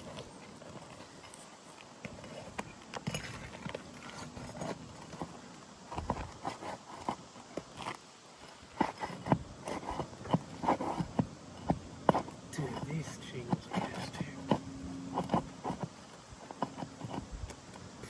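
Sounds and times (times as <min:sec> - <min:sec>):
hand tools scraping shingles: 0:00.0 - 0:18.0.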